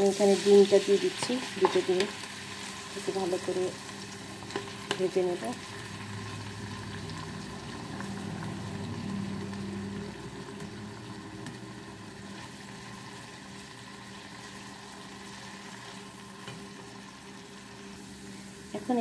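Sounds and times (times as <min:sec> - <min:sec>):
eggs sizzling in a pan: 0:00.0 - 0:19.0.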